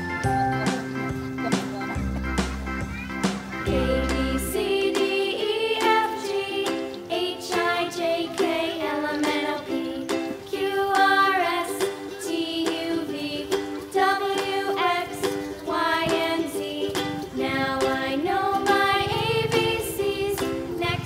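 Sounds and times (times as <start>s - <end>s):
plucked string accompaniment: 0.0s - 21.0s
person singing: 3.7s - 21.0s.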